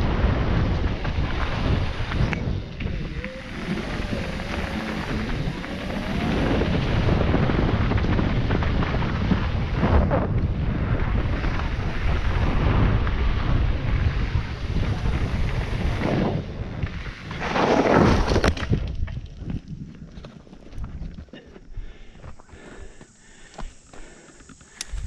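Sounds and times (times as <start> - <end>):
wind on microphone: 0.0 - 21.2.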